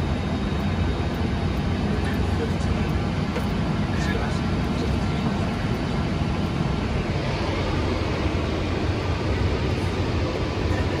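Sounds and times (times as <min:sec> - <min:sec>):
jet cabin engine and airflow noise: 0:00.0 - 0:11.0.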